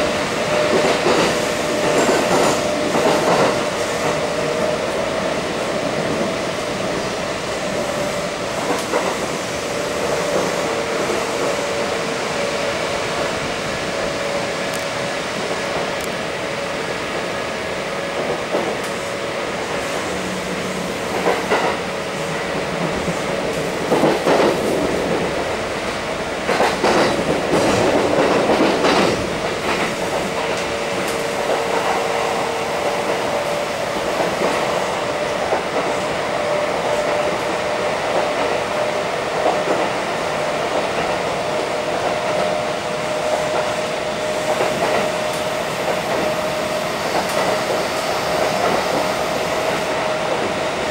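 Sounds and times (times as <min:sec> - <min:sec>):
train rolling noise: 0:00.0 - 0:50.9.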